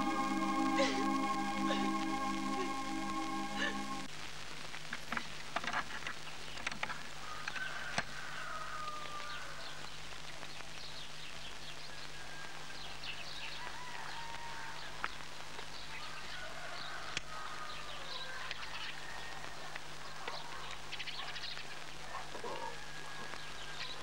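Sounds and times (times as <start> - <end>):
film soundtrack hum and hiss: 0.0 - 24.0.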